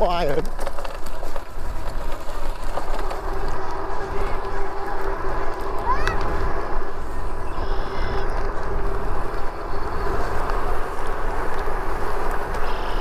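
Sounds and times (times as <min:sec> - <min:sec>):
tyre rumble: 0:00.0 - 0:13.0
wind buffeting microphone: 0:00.0 - 0:13.0
steady hum: 0:01.4 - 0:13.0.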